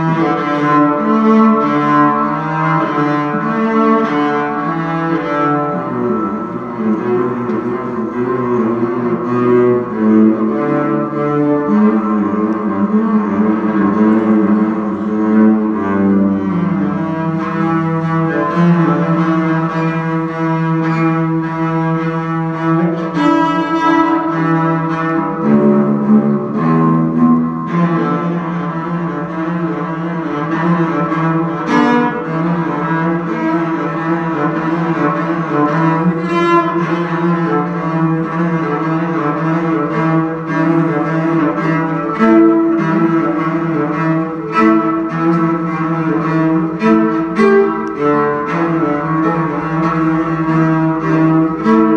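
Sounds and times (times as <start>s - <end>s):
bowed cello long notes: 0.0s - 51.9s.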